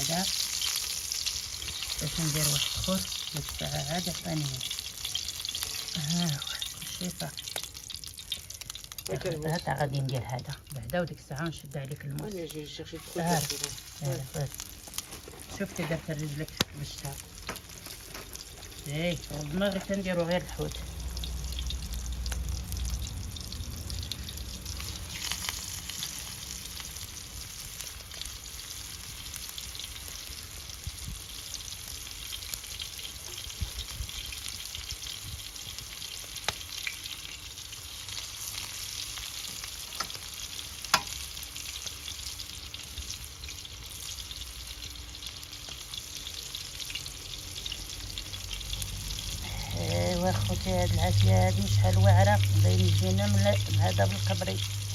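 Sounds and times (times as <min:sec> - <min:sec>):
fish sizzling in oil: 0:00.0 - 0:54.9.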